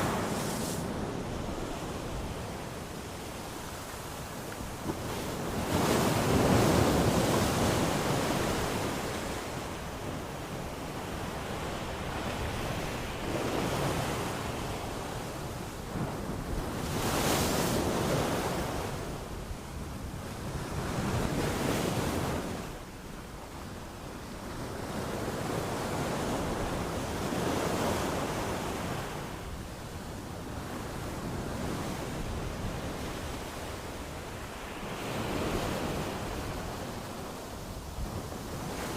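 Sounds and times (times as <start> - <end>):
ocean waves breaking on beach: 0.0 - 23.0, 23.8 - 38.9.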